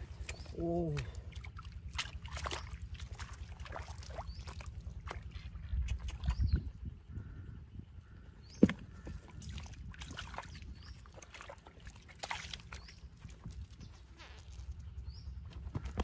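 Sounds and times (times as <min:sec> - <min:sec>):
hands squelching in muddy water: 0:00.0 - 0:06.6, 0:08.7 - 0:14.9.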